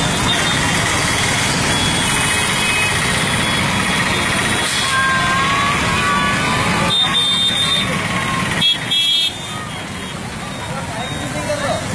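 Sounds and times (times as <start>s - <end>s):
road traffic noise: 0.0s - 11.9s.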